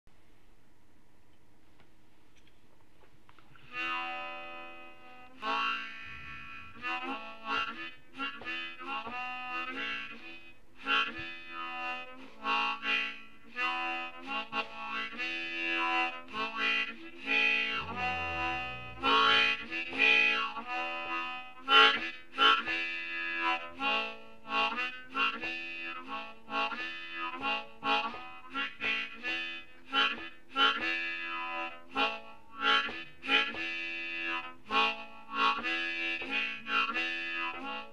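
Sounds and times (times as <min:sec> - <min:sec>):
harmonica improvising: 0:03.5 - 0:37.9.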